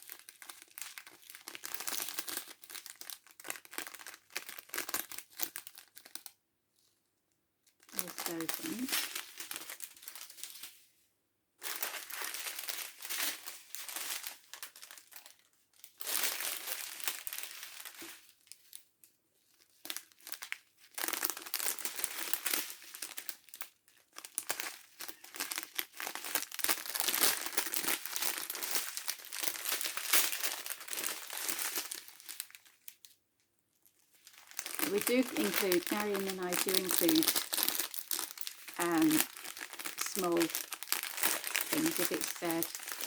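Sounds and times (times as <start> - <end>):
plastic packaging rustling: 0.0 - 6.4, 7.8 - 10.8, 11.6 - 18.9, 19.5 - 33.2, 33.8 - 43.0.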